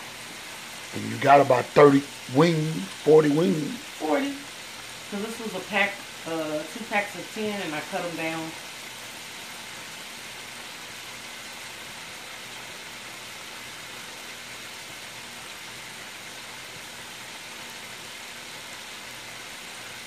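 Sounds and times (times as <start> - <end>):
hot oil sizzling: 0.0 - 20.0.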